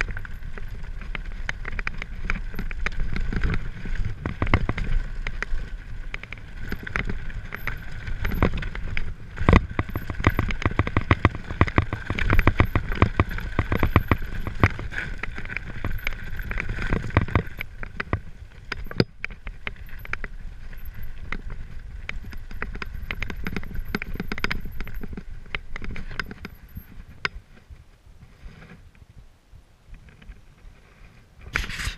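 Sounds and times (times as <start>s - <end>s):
tyres crunching over stones: 0.0s - 27.4s
bike rattling: 0.0s - 28.9s.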